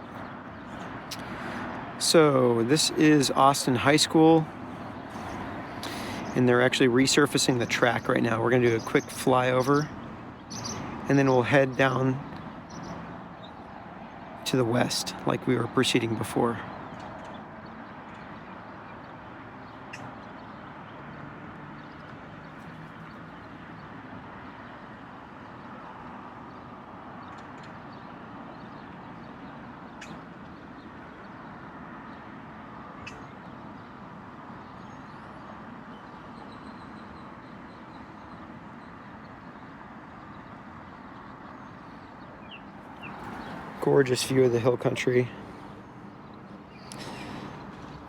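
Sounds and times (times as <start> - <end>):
steady background noise: 0.0 - 48.0.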